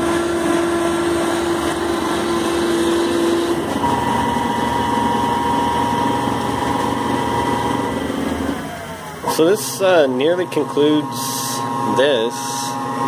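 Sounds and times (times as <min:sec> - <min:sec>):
lathe whirring with motor whine: 0:00.0 - 0:13.0.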